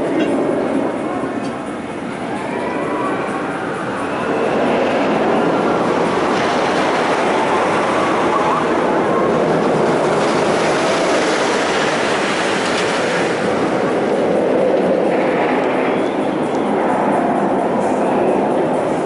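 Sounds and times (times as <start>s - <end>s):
steam train wheels on rails: 0.0s - 19.0s.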